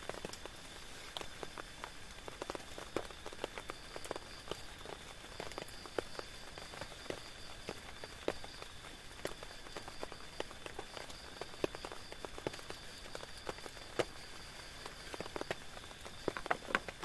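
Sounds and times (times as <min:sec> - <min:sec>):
rain tapping on a tent: 0:00.0 - 0:17.0.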